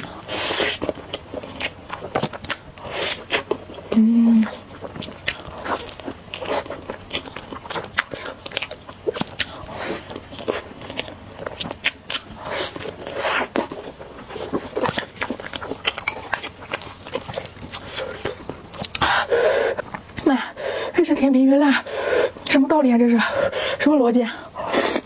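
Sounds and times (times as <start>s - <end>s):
crunchy bites and chewing: 0.0s - 20.2s.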